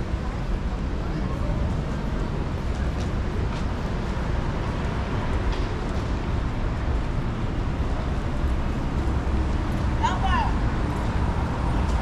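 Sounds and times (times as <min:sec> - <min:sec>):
street noise: 0:00.0 - 0:12.0
traffic rumble: 0:00.0 - 0:12.0.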